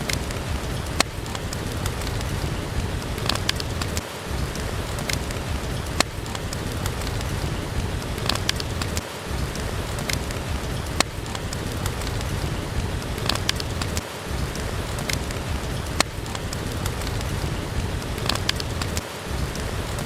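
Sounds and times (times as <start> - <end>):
steady rain falling: 0.0 - 20.0
wood fire crackling and popping: 0.0 - 20.0.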